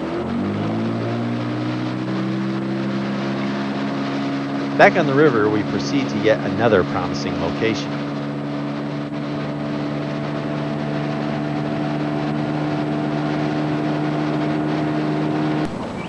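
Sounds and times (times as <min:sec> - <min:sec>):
boat motor humming: 0:00.0 - 0:16.0
water noise: 0:00.0 - 0:16.0.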